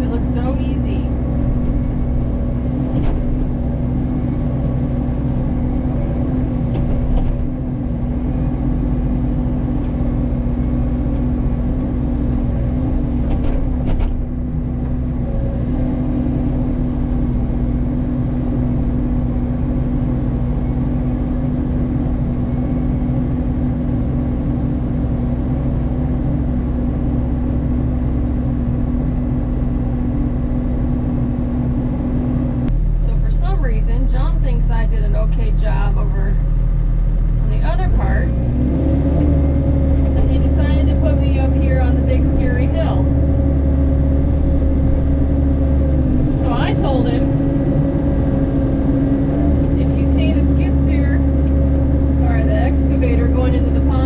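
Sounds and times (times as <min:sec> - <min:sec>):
excavator engine and cutter drone: 0:00.0 - 0:54.0.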